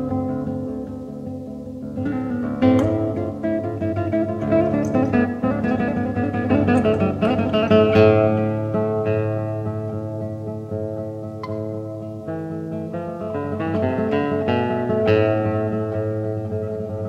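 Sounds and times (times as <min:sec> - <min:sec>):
classical guitar fingerstyle: 0:00.0 - 0:17.0.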